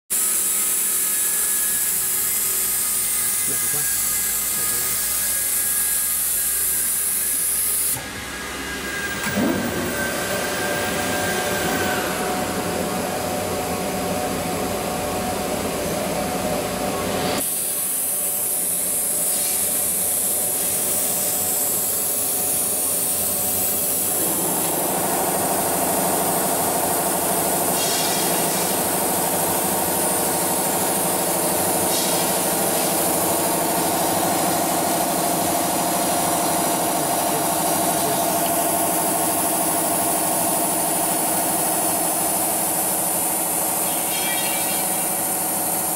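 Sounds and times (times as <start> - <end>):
cnc router whining: 0.2 - 45.9.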